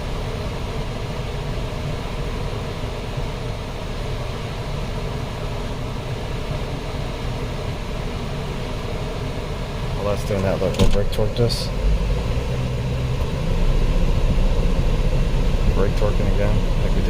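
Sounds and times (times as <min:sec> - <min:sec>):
car engine idling: 0:00.0 - 0:17.0
car fan blowing: 0:00.0 - 0:17.0.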